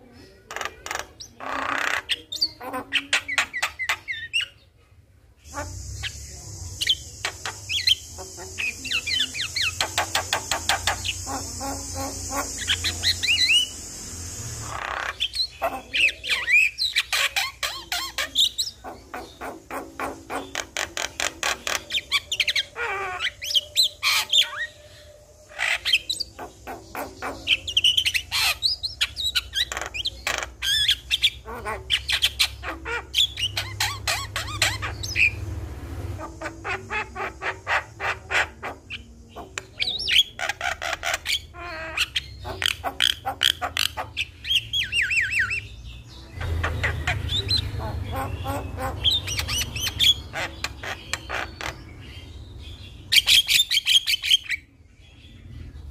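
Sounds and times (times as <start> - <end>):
mynas calling: 0.0 - 4.7, 5.4 - 55.9.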